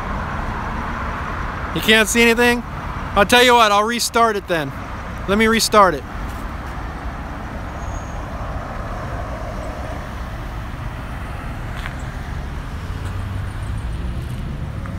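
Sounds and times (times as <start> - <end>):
road traffic rumble: 0.0 - 14.9.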